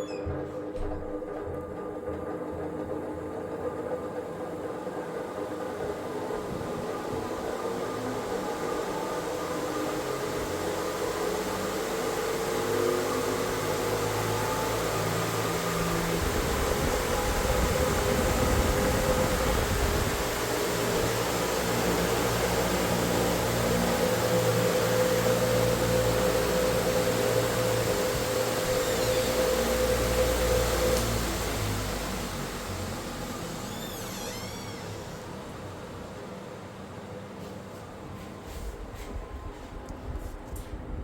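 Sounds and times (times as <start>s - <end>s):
electric fan running: 0.0s - 41.0s.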